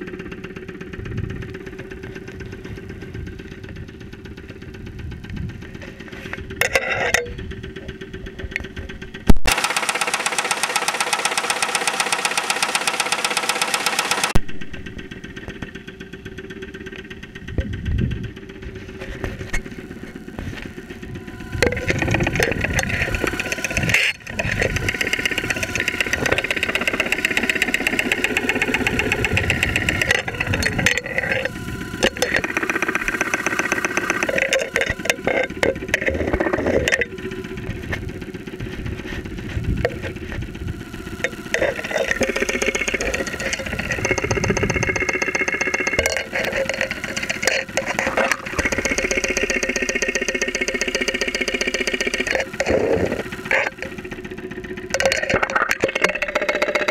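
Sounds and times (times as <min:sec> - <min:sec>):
engine knocking clatter: 0:00.0 - 0:56.9.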